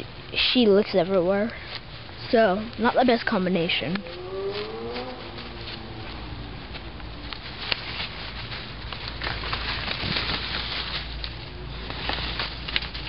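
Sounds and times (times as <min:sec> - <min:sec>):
plant leaves rustling: 0:00.0 - 0:13.0
dry leaf litter crackling: 0:00.3 - 0:13.0.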